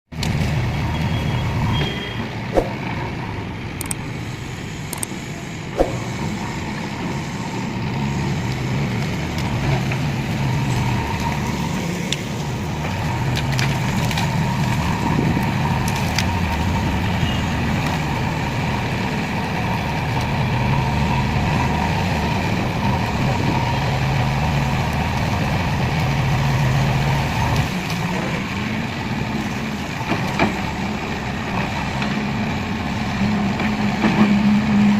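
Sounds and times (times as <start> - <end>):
diesel engine working: 0.2 - 34.9.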